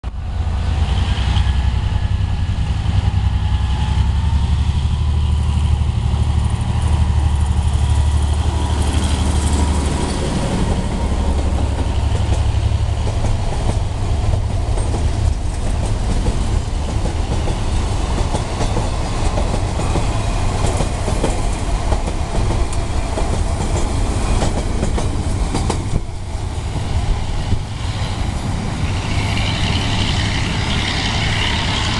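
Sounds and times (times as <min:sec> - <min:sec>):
diesel locomotive engine droning: 0:00.0 - 0:31.9
train wheels clattering over rails: 0:00.8 - 0:31.9.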